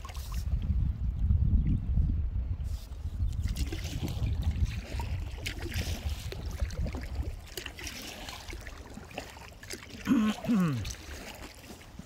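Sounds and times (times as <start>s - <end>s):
water splashing against kayak hull: 0.0s - 0.8s, 2.7s - 12.0s.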